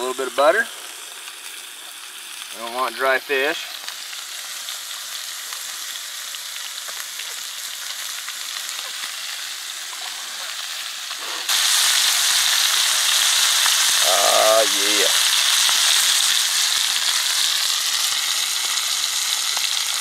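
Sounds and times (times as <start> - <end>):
fish sizzling in oil: 0.0 - 20.0.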